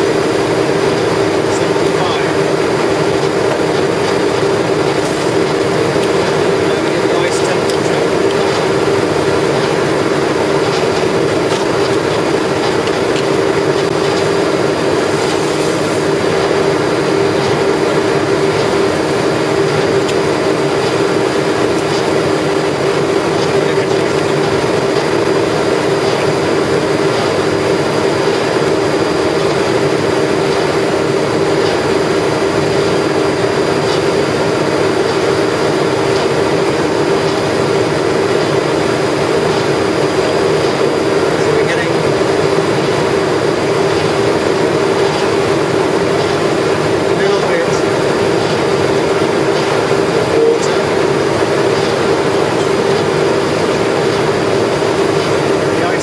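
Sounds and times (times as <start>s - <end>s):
pump mechanical hum: 0.0s - 56.0s.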